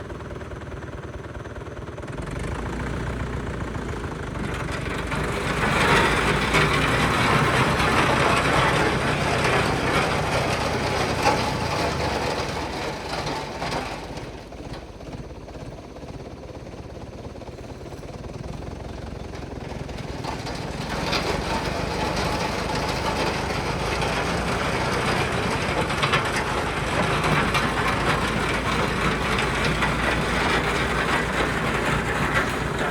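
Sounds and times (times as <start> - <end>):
tractor diesel engine throbbing: 0.0 - 32.9.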